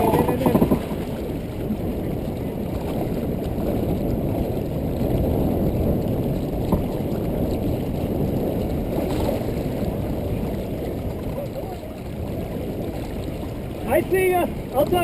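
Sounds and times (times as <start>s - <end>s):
water running past hull: 0.0s - 15.0s
wind on microphone: 0.0s - 15.0s.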